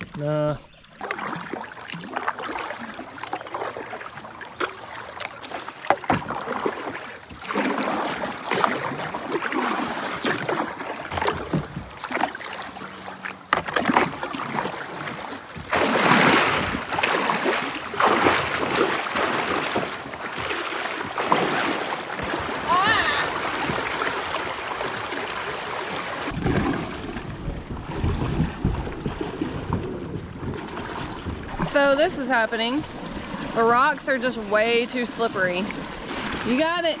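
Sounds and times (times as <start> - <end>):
paddle strokes splashing: 0.8 - 37.0
water rushing over a riffle: 1.0 - 37.0.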